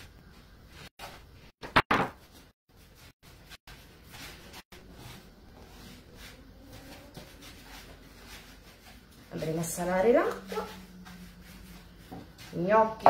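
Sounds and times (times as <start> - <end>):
hands rolling dough on board: 2.2 - 13.0.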